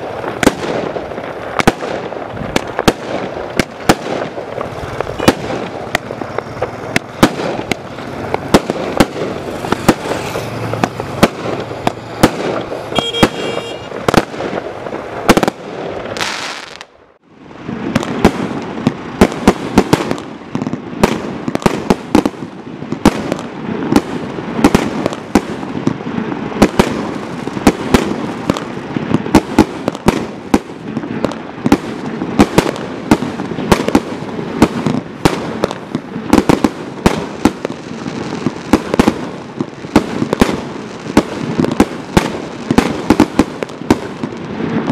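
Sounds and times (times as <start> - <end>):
firework crackle: 0.0 - 44.9
fireworks launching and bursting: 0.0 - 44.9.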